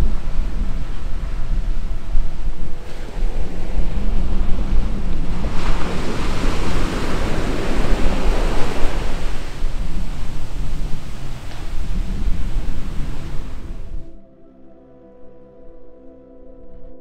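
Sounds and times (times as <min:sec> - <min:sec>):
waves washing up a beach: 0:00.0 - 0:14.0
wind rumbling on microphone: 0:00.0 - 0:14.2.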